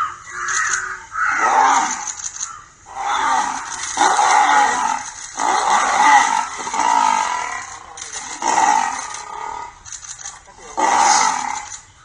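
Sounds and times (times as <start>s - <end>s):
lions snarling and growling: 0.5s - 11.9s.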